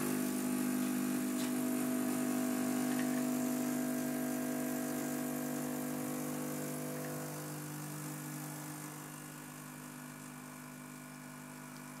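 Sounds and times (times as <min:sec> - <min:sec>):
espresso machine pump humming: 0:00.0 - 0:12.0.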